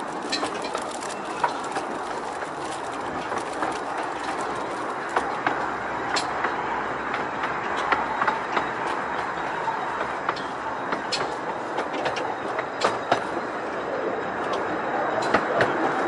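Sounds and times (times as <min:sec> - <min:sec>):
wheels clicking over rail joints: 0:00.0 - 0:13.6
train wheels rumbling: 0:00.0 - 0:16.0.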